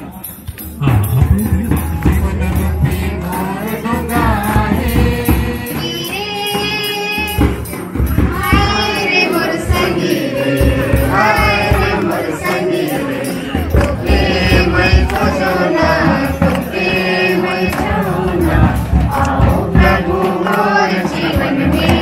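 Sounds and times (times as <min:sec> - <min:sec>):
song with singing over a beat: 0:00.0 - 0:22.0.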